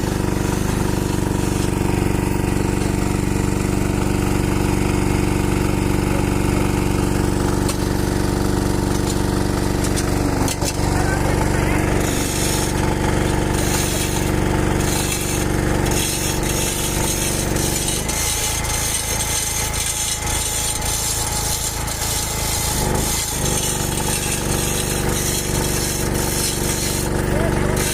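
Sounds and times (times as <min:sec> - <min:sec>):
engine droning: 0:00.0 - 0:27.9
rasping power tool: 0:00.0 - 0:27.9.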